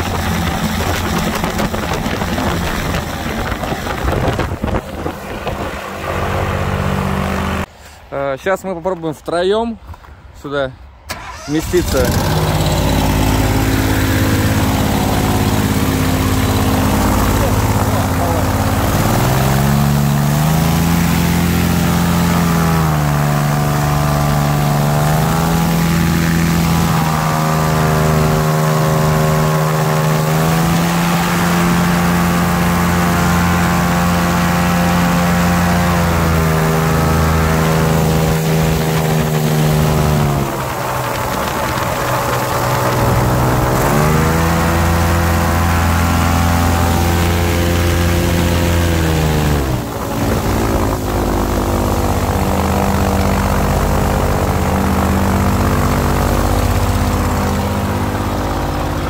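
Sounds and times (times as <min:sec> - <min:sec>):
airboat engine and propeller: 0:00.0 - 0:07.7, 0:11.6 - 0:59.0.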